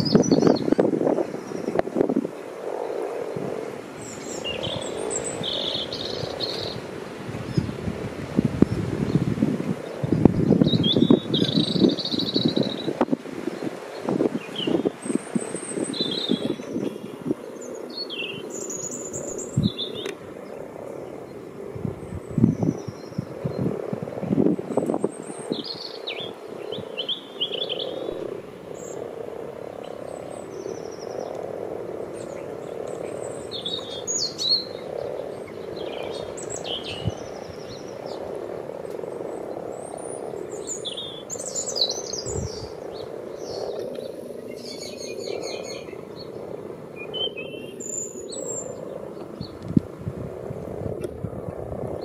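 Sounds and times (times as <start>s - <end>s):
frogs croaking in chorus: 0.0s - 8.9s, 14.0s - 49.6s.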